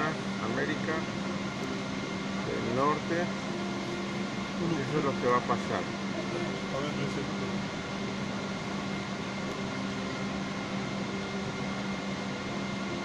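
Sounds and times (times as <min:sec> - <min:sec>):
cabin ventilation air rushing: 0:00.0 - 0:13.0
constant hum: 0:00.0 - 0:13.0.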